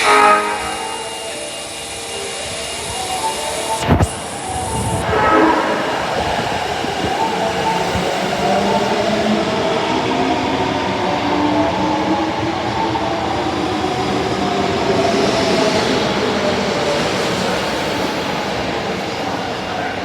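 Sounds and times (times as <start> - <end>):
subway train wheel noise: 0.0 - 20.0.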